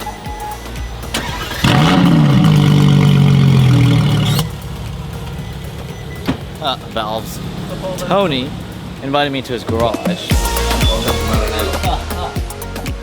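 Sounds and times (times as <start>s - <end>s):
car engine starting and running: 0.0s - 12.3s.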